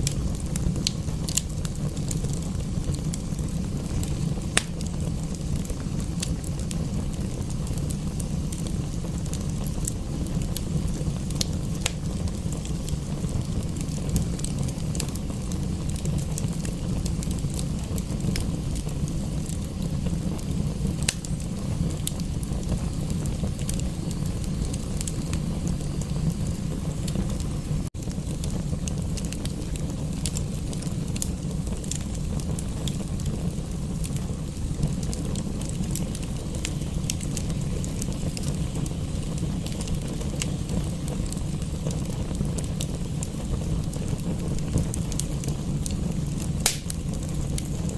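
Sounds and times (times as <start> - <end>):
steady low rumble: 0.0 - 47.9
wood fire crackling and popping: 0.0 - 47.9.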